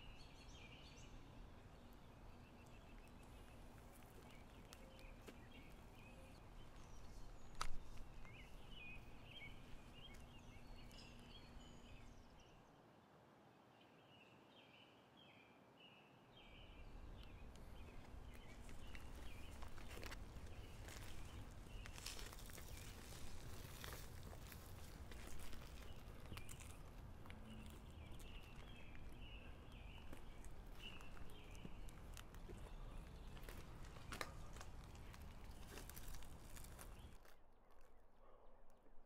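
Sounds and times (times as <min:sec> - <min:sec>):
small birds chirping: 0:00.0 - 0:12.8, 0:13.8 - 0:37.3
low outdoor background noise: 0:00.0 - 0:39.0.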